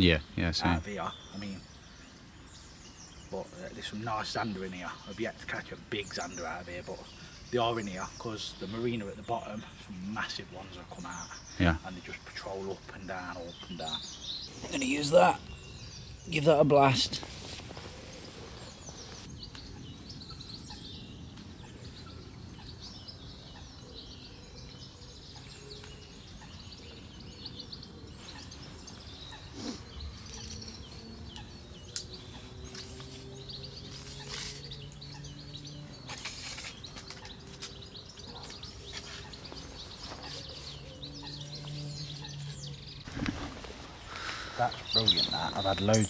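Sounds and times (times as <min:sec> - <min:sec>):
songbirds chirping: 0:00.0 - 0:46.0.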